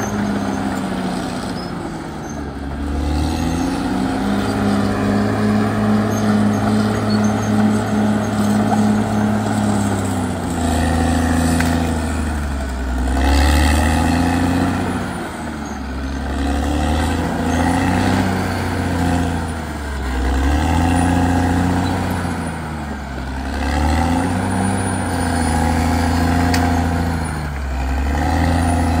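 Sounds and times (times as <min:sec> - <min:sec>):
bulldozer diesel engine under load: 0:00.0 - 0:29.0.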